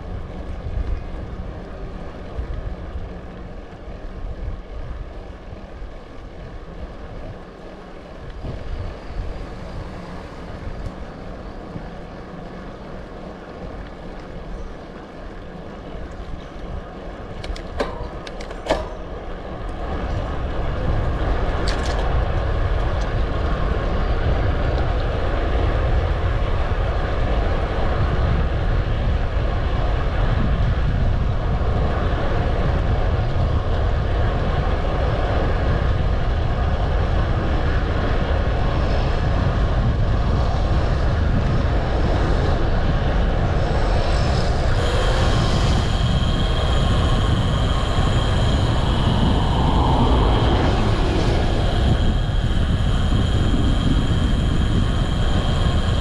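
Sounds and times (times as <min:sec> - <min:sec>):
bike road rumble: 0:00.0 - 0:56.0
wind rushing over microphone: 0:00.0 - 0:56.0.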